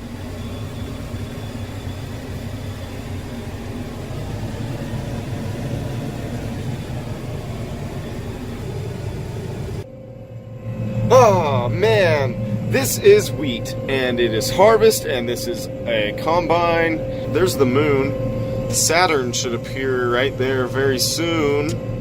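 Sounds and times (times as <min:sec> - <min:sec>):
combine harvester drone: 0:00.0 - 0:22.0.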